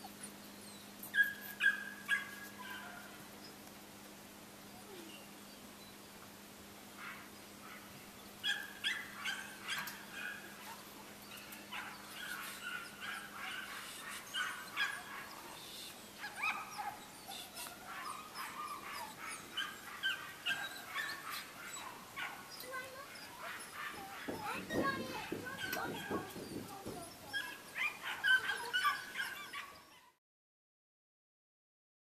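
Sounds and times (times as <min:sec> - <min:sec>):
puppies whining and yipping: 0:00.0 - 0:03.6, 0:07.0 - 0:30.2.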